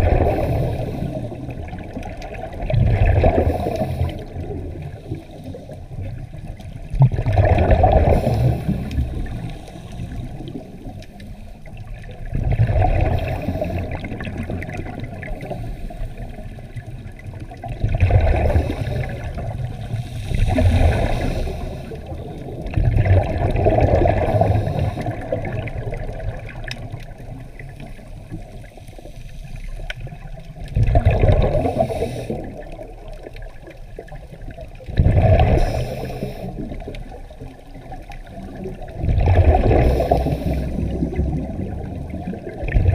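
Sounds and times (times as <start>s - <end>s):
exhaled bubbles gurgling underwater: 0.0s - 42.9s
low rumble of water: 0.0s - 42.9s.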